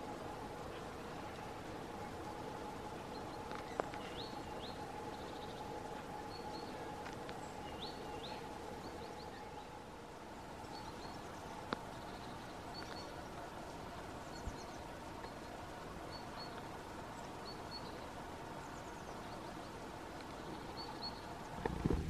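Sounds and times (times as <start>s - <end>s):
faint hum: 0.0s - 22.0s
outdoor background hiss: 0.0s - 22.0s
songbirds chirping: 0.0s - 22.0s.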